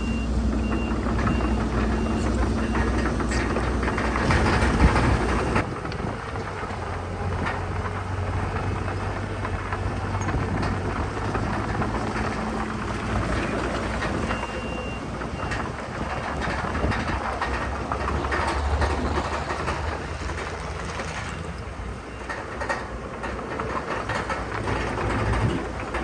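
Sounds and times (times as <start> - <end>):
bulldozer diesel engine running: 0.0 - 26.0
dirt and rock crackling: 0.0 - 26.0
tracks clanking: 0.0 - 26.0.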